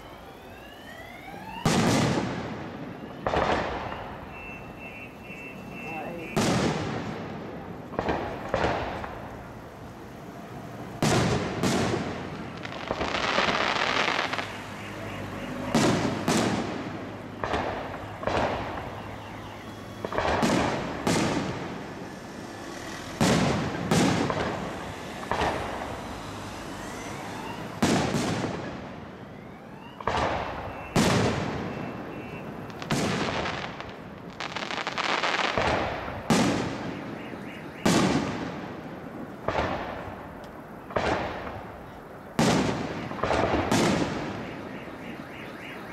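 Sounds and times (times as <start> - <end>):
firework crackling: 1.4 - 29.0, 29.6 - 45.1.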